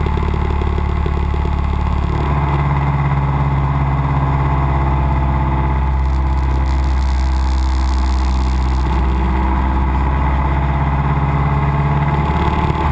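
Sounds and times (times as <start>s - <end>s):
airplane engine and propeller droning: 0.0s - 12.9s.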